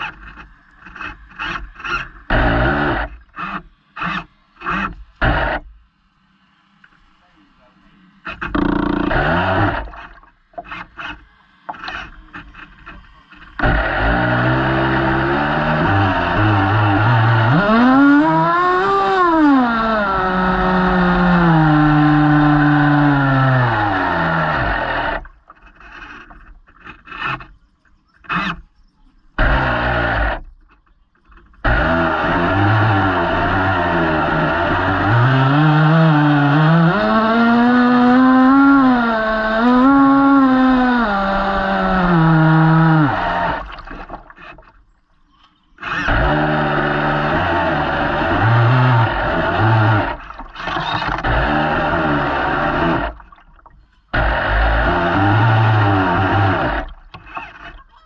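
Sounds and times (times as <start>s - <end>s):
model boat motor running: 0.0s - 5.8s, 8.2s - 27.5s, 29.4s - 30.6s, 31.6s - 44.7s, 45.8s - 53.4s, 54.0s - 58.0s.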